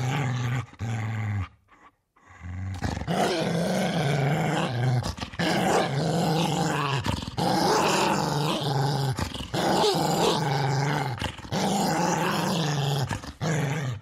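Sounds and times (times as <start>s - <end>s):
dog growling: 0.0s - 14.0s.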